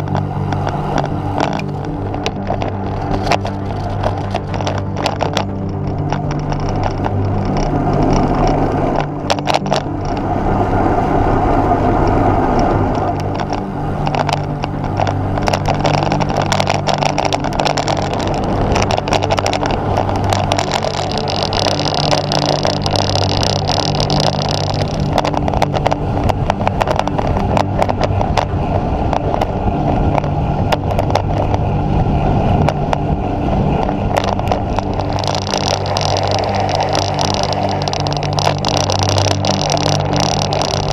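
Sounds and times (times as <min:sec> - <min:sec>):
rattling clicks from road: 0:00.0 - 0:40.9
wind rushing over microphone: 0:00.0 - 0:40.9.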